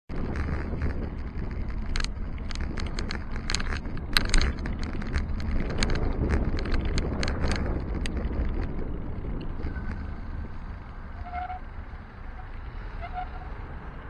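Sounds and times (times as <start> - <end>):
bike rattling and clicking: 0.1 - 13.4
wind rumbling on microphone: 0.1 - 14.0.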